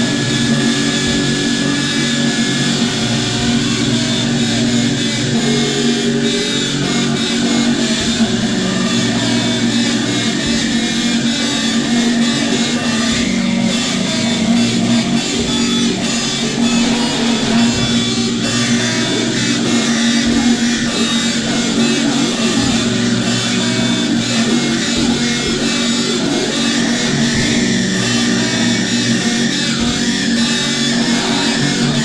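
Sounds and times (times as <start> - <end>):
instrumental rock music with guitar: 0.0 - 32.0.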